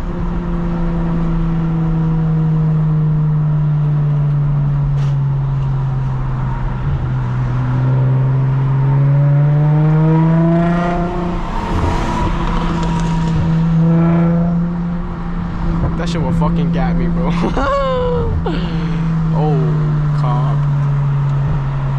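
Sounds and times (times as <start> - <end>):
car exhaust revving: 3.0 - 21.9.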